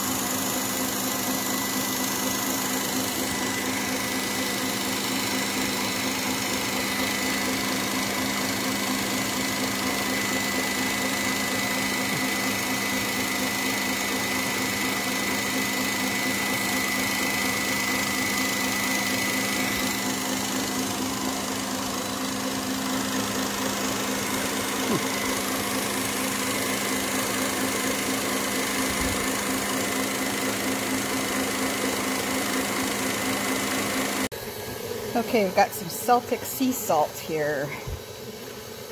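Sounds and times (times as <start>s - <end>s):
stand mixer churning cream: 0.0s - 38.9s.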